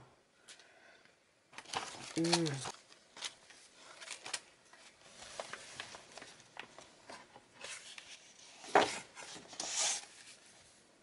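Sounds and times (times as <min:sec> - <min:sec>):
paper rustling: 0:01.6 - 0:10.8.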